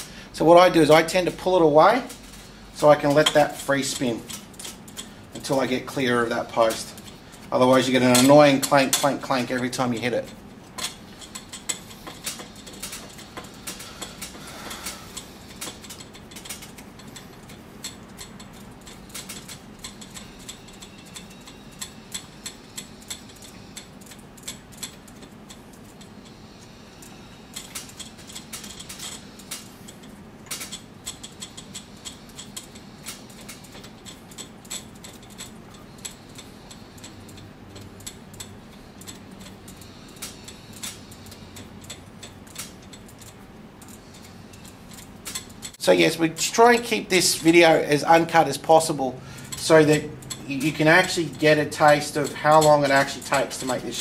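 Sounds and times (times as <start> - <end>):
serving jig clicking and rattling: 2.0 - 26.4, 27.0 - 45.8, 46.4 - 54.0.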